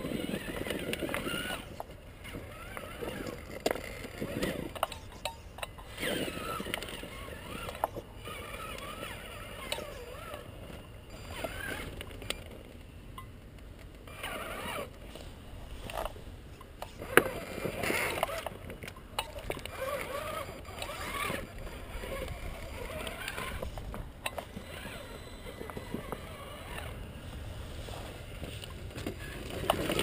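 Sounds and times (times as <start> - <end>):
electric motor whining: 0.0 - 5.2, 5.8 - 12.5, 14.1 - 16.1, 19.3 - 30.0.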